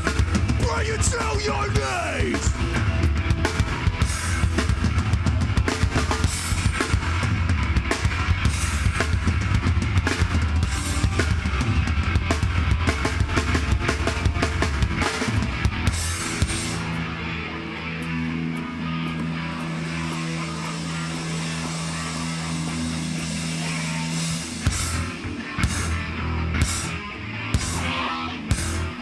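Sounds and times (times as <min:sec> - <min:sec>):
drum kit playing: 0:00.0 - 0:29.0
electric guitar: 0:00.0 - 0:29.0
heavy bass: 0:00.0 - 0:29.0.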